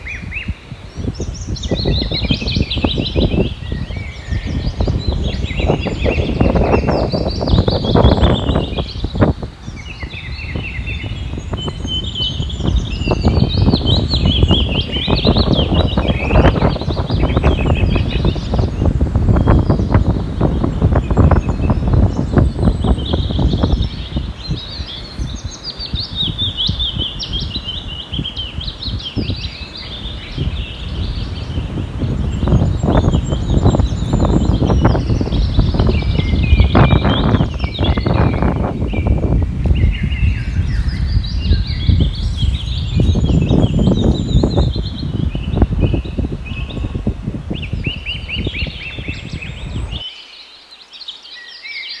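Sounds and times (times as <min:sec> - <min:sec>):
wind buffeting microphone: 0:00.0 - 0:50.2
small birds chirping: 0:00.0 - 0:52.0.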